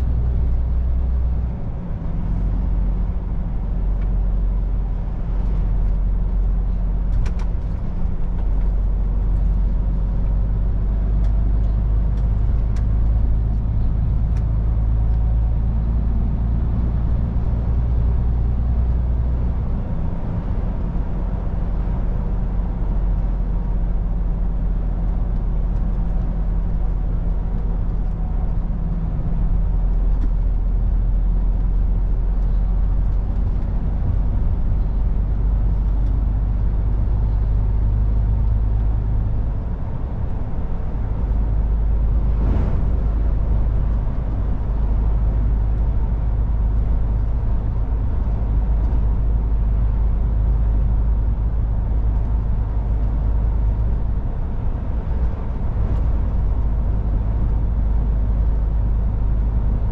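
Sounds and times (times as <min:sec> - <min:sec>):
diesel engine droning: 0:00.0 - 0:59.9
road noise: 0:00.0 - 0:59.9.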